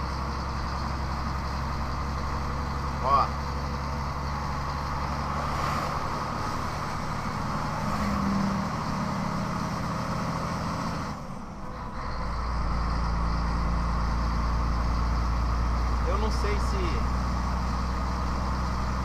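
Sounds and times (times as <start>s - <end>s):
diesel truck engine pulling uphill: 0.0s - 19.0s.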